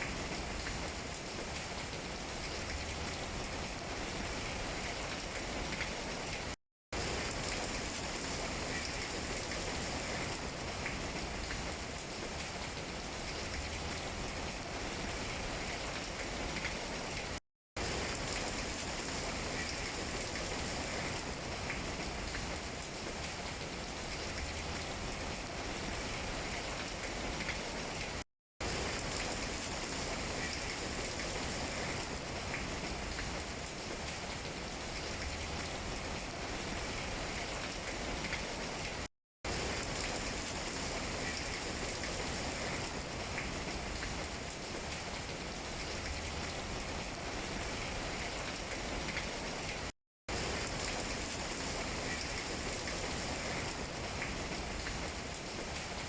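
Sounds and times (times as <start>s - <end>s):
rain pattering on leaves: 0.0s - 56.0s.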